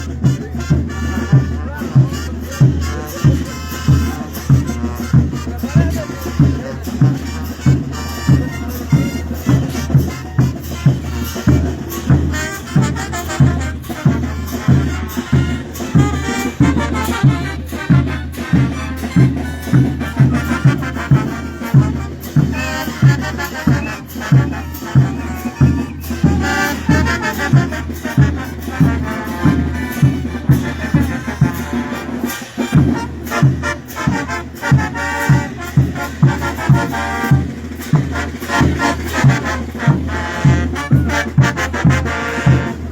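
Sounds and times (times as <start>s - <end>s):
bass drum beat: 0.0s - 42.9s
brass band playing: 0.0s - 42.9s
cymbals: 0.0s - 42.9s.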